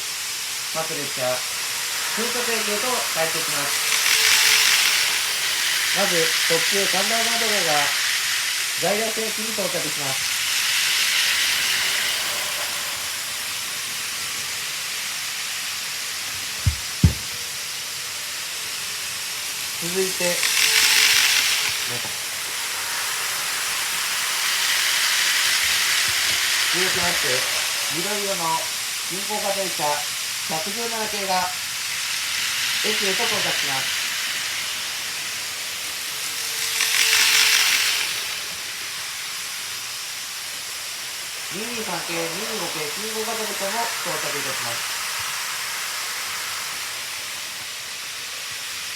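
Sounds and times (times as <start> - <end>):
faint motor whine: 0.0 - 48.9
model train rolling on track: 0.0 - 48.9.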